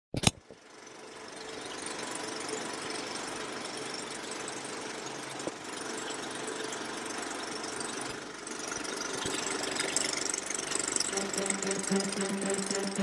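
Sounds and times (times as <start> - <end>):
film projector whirring: 0.7 - 13.0.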